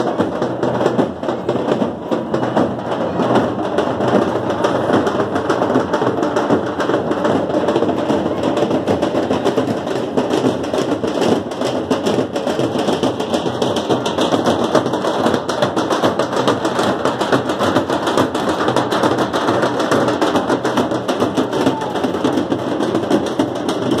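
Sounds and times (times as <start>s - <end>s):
large drums beaten fast: 0.0s - 24.0s.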